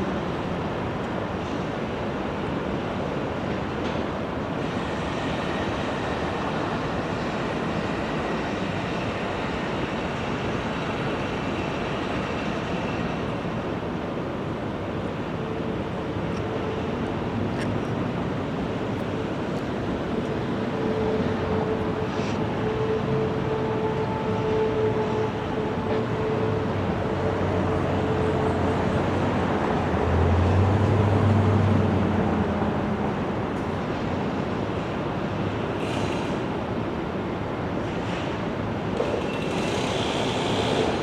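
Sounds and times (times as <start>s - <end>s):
freight train wheels on rail: 0.0s - 41.0s.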